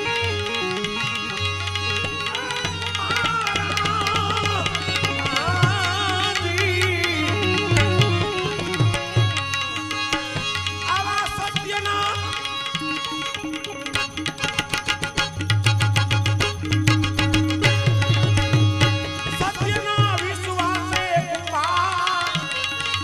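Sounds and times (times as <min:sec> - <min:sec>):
tabla rhythm: 0:00.0 - 0:23.0.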